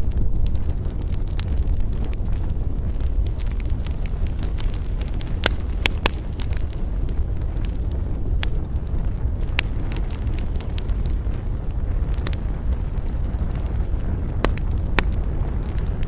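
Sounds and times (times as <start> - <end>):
campfire burning and crackling: 0.0 - 16.0.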